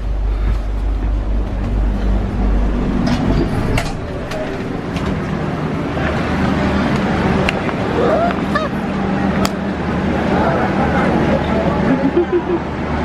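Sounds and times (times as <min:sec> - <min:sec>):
train carriage rumble and rattle: 0:00.0 - 0:13.0.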